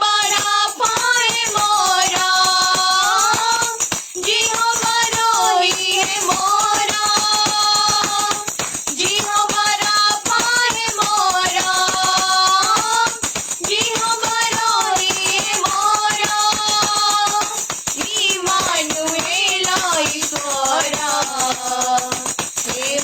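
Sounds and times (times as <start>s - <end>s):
fast tambourine rhythm: 0.0s - 23.0s.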